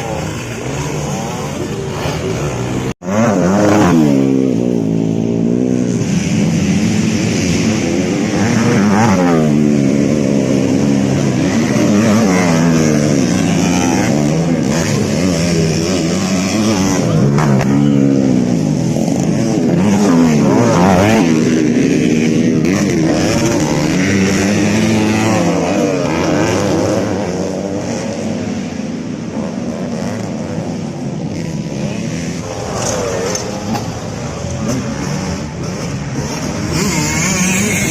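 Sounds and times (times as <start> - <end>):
motocross bikes revving: 0.0 - 37.9.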